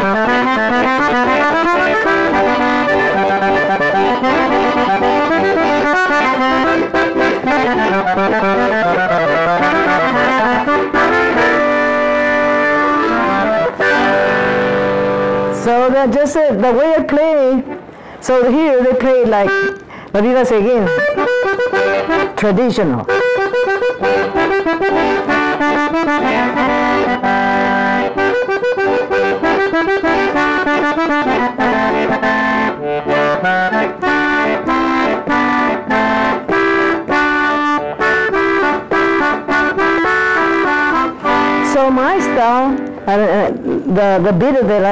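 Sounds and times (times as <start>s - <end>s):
button accordion playing: 0.0s - 44.9s.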